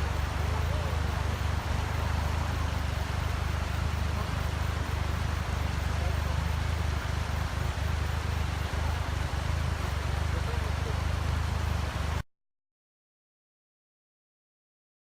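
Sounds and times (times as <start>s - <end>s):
engine and road rumble: 0.0s - 12.2s.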